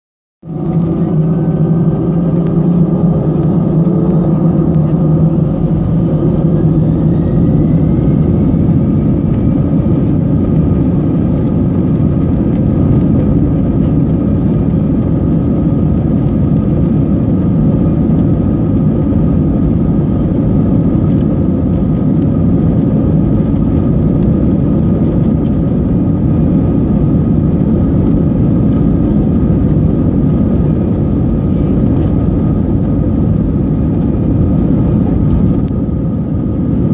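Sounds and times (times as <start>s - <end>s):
jet engine and runway roar: 0.4s - 36.9s
jet engine whine rising: 0.4s - 36.9s.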